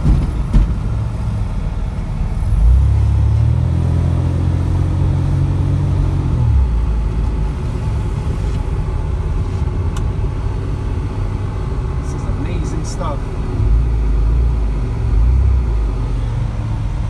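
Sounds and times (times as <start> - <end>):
car engine and road rumble: 0.0 - 17.0
deeper engine hum: 0.0 - 17.0.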